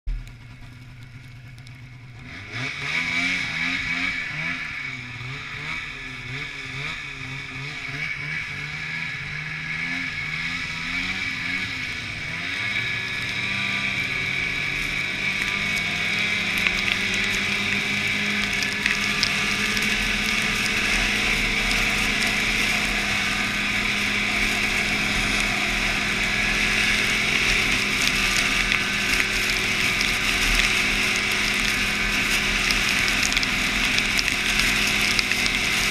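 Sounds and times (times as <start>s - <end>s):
snowmobile engine running: 0.1s - 35.9s.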